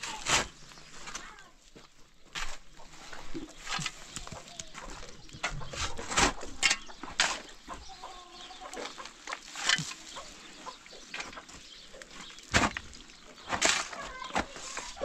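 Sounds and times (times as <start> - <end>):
shovel scraping gravelly ground: 0.0 - 8.1, 8.7 - 15.0
chickens clucking: 2.4 - 15.0.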